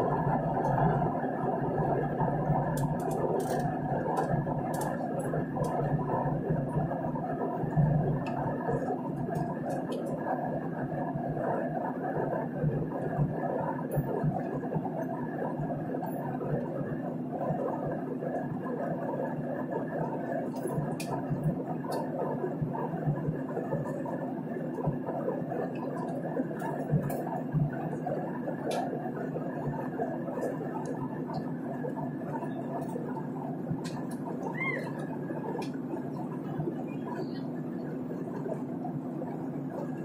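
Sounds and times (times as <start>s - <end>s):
airliner engines droning: 0.0s - 40.0s.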